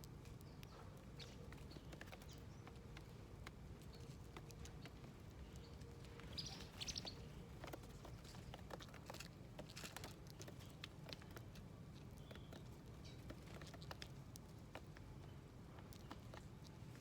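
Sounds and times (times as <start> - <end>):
birds pecking at seeds: 0.0 - 17.0.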